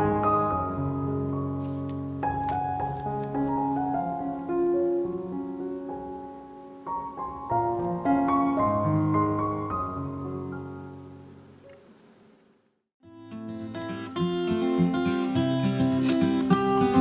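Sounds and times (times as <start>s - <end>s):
soft piano music: 0.0s - 11.9s, 13.3s - 17.0s.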